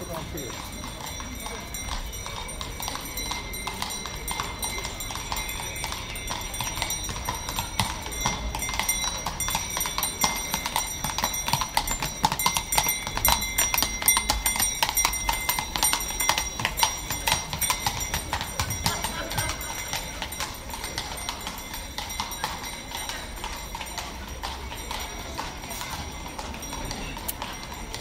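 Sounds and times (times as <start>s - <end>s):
harness bells ringing: 0.0s - 28.0s
horse hooves clip-clopping: 0.0s - 28.0s.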